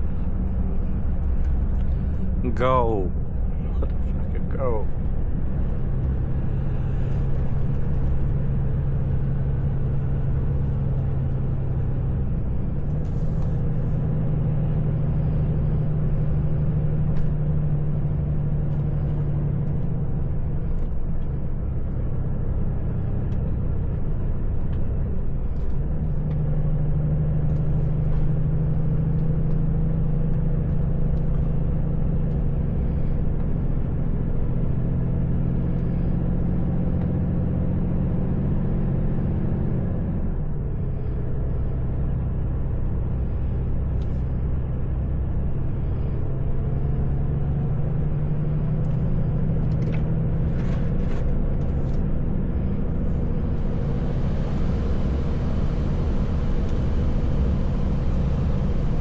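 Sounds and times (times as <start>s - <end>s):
truck diesel engine droning: 0.0s - 59.0s.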